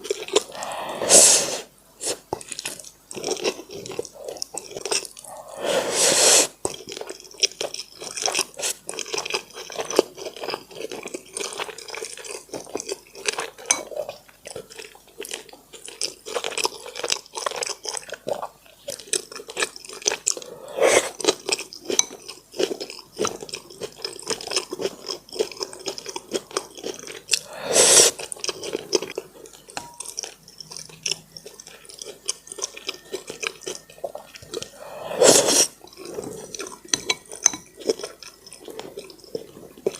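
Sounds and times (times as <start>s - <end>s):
chewing and mouth sounds: 0.0s - 1.0s, 2.0s - 5.6s, 6.4s - 39.9s.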